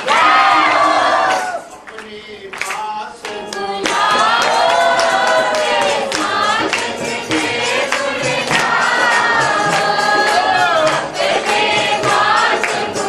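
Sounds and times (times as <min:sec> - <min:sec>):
group singing devotional song: 0:00.0 - 0:13.0
sharp percussive beats: 0:00.0 - 0:13.0.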